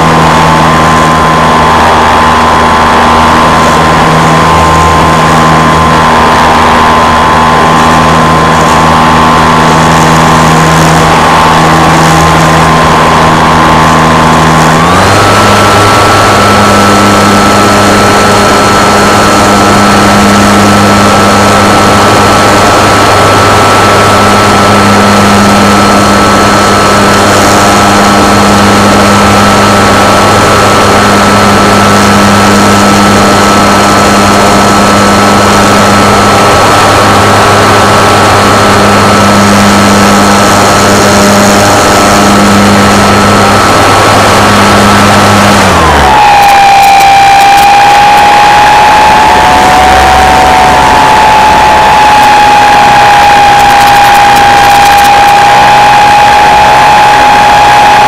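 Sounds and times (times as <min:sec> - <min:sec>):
model aircraft motor droning: 0:00.0 - 0:58.0
propeller high whine: 0:00.0 - 0:58.0.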